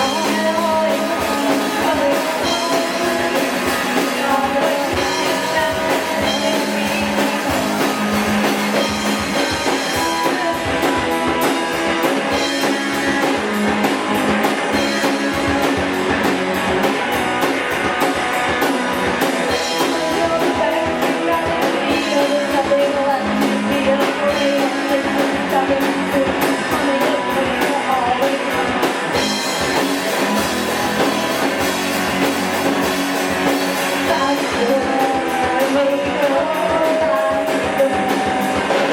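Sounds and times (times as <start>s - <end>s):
person singing: 0.0s - 16.2s, 19.2s - 30.4s, 34.0s - 38.9s
drum kit: 0.0s - 38.9s
guitars: 0.0s - 38.9s.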